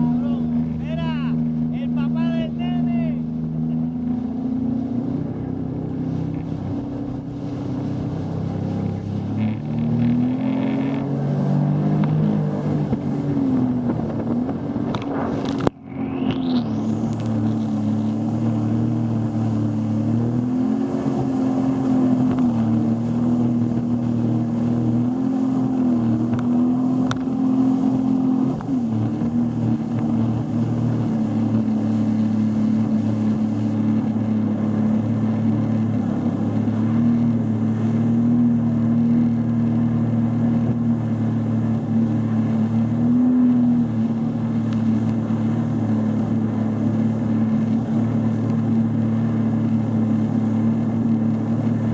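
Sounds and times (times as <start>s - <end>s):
motorboat engine running: 0.0s - 51.9s.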